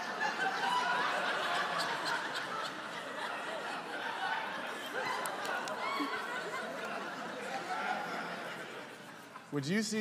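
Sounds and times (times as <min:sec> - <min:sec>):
group of people laughing: 0:00.0 - 0:09.5.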